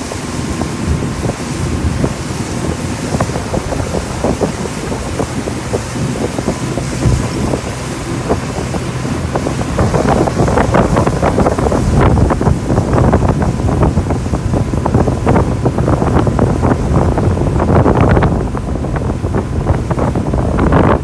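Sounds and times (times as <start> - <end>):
boat engine drone: 0.0 - 21.0
rushing boat wake: 0.0 - 21.0
wind buffeting microphone: 0.0 - 21.0.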